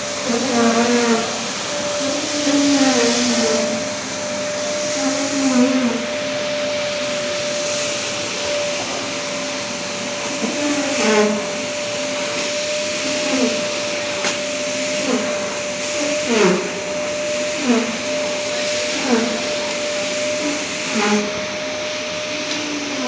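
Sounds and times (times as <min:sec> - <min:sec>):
floor scrubber motor running: 0:00.0 - 0:23.0.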